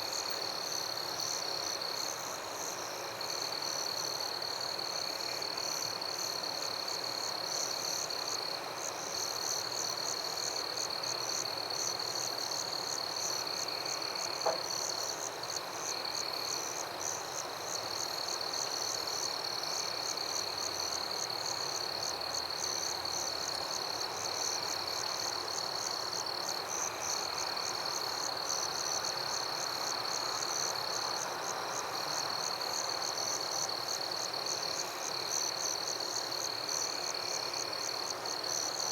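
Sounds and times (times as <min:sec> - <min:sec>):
crickets chirping fast: 0:00.0 - 0:38.9.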